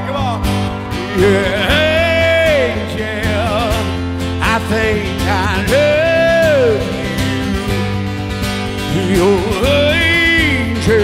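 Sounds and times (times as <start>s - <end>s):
person singing: 0.0s - 7.9s, 8.8s - 11.0s
country band playing: 0.0s - 11.0s.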